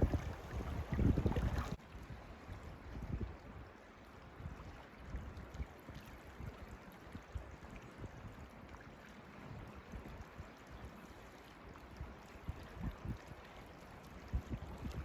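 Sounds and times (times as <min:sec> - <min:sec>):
creek water running: 0:00.0 - 0:01.9, 0:03.0 - 0:15.0.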